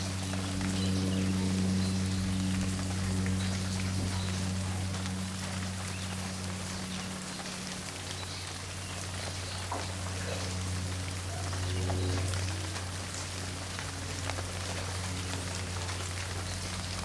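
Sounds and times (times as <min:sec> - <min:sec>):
low steady hum: 0:00.0 - 0:17.0
steady rain falling: 0:00.0 - 0:17.0.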